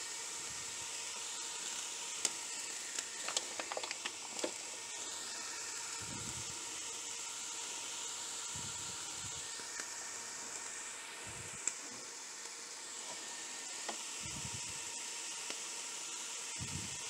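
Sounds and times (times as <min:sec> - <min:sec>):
skillet hissing on camp stove: 0:00.0 - 0:17.0.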